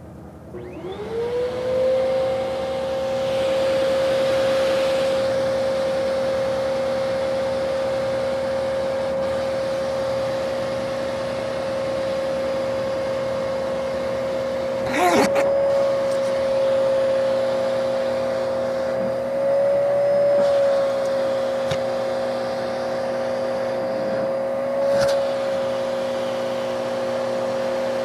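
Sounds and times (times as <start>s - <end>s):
vacuum cleaner motor whine: 0.0s - 28.0s.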